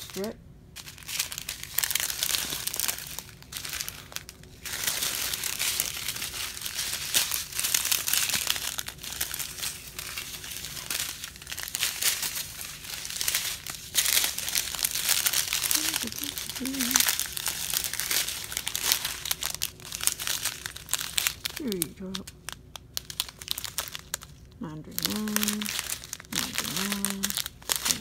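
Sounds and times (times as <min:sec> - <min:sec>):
plastic bags crinkling: 0:00.0 - 0:28.0.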